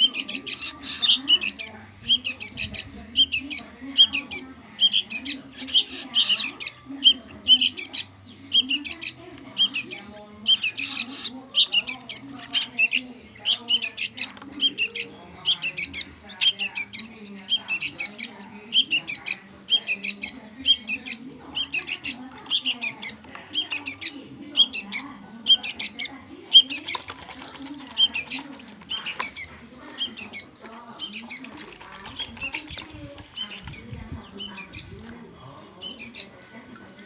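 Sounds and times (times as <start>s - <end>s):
chicks begging with shrill chirps: 0.0s - 36.7s.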